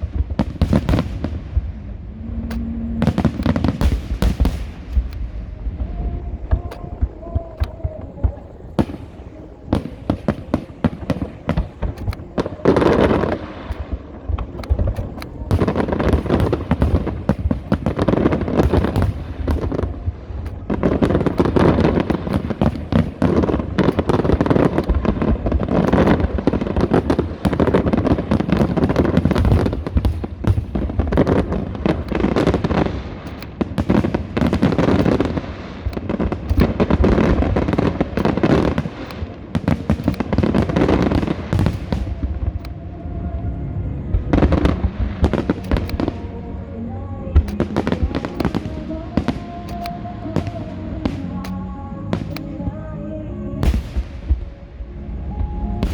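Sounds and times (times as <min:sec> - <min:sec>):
fireworks bursting and crackling: 0:00.0 - 0:55.9.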